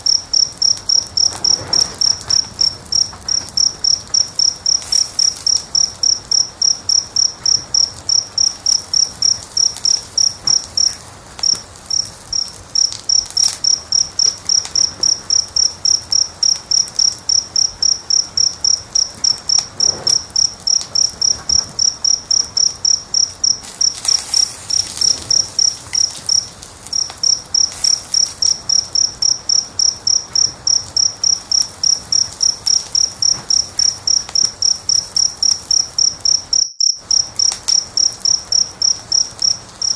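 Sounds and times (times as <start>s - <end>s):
cricket chirping: 0.0s - 39.9s
wood fire crackling: 0.0s - 39.9s.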